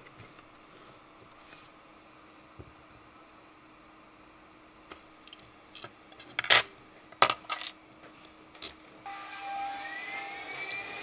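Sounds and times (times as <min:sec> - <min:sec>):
quiet whirring tone: 0:00.0 - 0:11.0.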